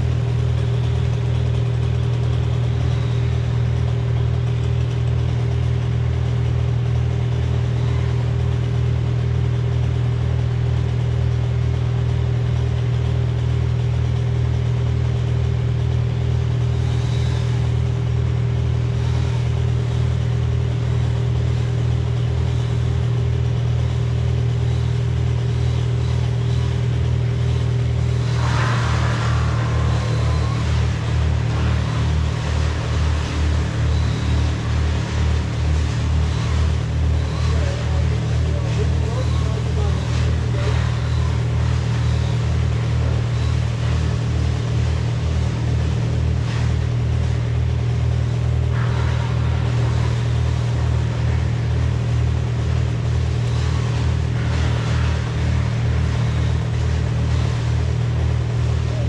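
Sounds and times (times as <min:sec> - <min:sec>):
engine droning steadily: 0:00.0 - 0:59.0.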